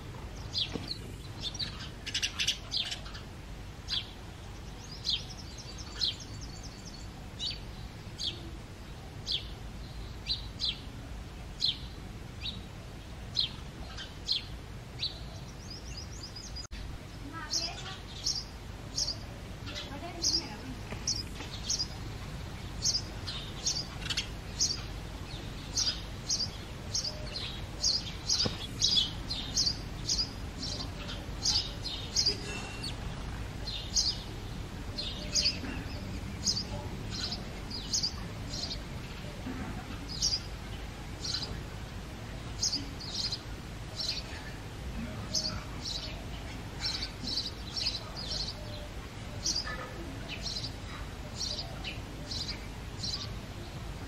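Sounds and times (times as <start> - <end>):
sparrow chirping: 0.3 - 8.5, 9.2 - 10.9, 17.3 - 39.3, 39.9 - 44.4, 45.3 - 53.5.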